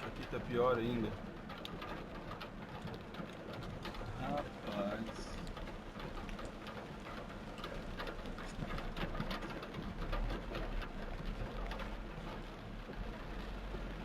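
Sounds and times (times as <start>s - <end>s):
heavy rain pelting a car: 0.0s - 14.0s.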